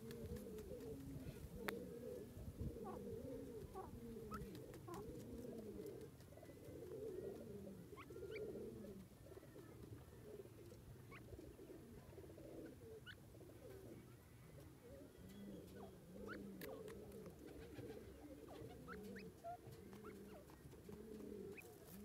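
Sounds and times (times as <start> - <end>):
low cooing bird calls: 0.0 - 22.0.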